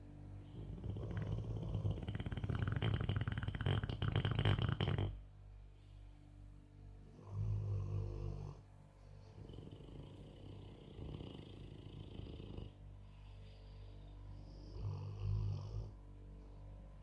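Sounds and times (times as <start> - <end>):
dog snoring: 0.4 - 5.2, 7.1 - 16.0.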